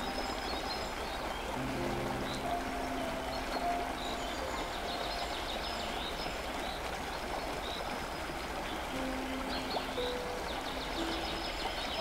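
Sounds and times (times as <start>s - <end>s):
birds chirping: 0.0s - 12.0s
river water rushing over rapids: 0.0s - 12.0s.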